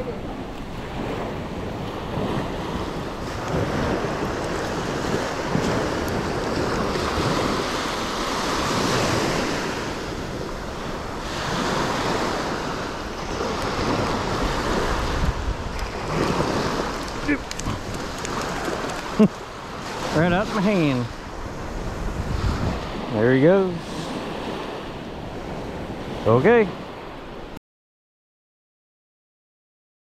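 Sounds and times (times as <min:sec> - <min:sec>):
wind rumbling on microphone: 0:00.0 - 0:27.5
small surf waves washing: 0:00.0 - 0:27.6.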